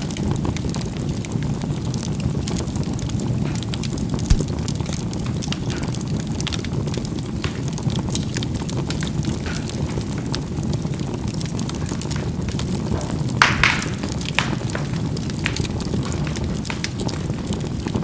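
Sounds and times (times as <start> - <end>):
charcoal crackling and popping: 0.0 - 18.0
fire low rumble: 0.6 - 18.0.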